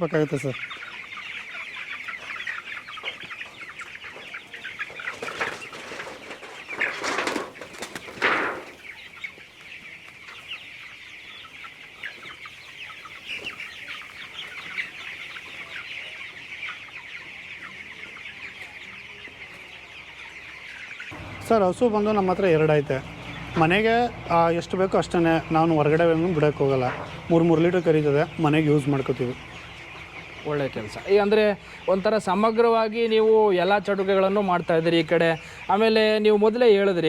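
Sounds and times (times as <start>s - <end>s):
chickens chirping and clucking: 0.0s - 37.0s.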